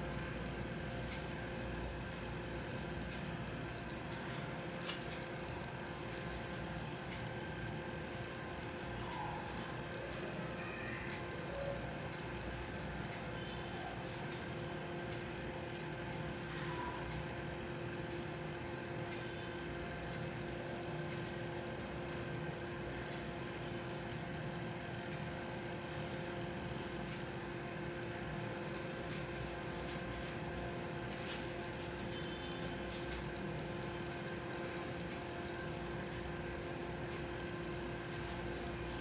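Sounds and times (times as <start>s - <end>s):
mechanical hum with held tones: 0.0s - 39.0s.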